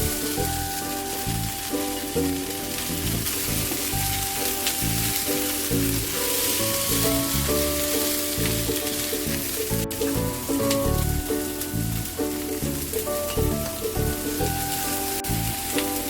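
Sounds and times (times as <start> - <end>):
background music: 0.0 - 16.0
food sizzling in a frying pan: 0.0 - 16.0.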